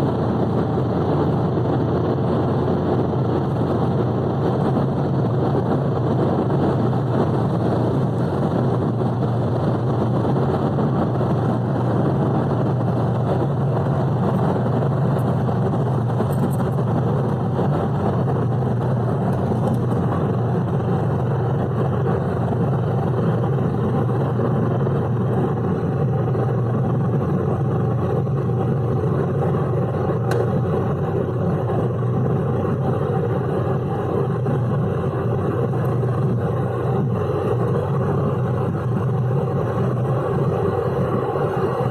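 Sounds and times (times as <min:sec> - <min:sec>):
car engine drone: 0:00.0 - 0:41.9
road and wind noise: 0:00.0 - 0:41.9.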